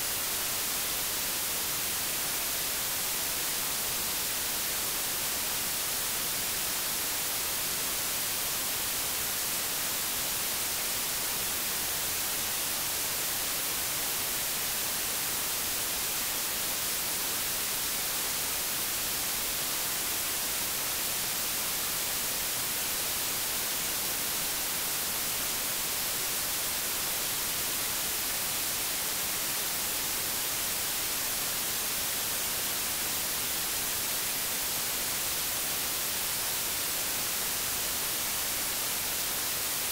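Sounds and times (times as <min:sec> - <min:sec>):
tape static hiss: 0:00.0 - 0:39.9.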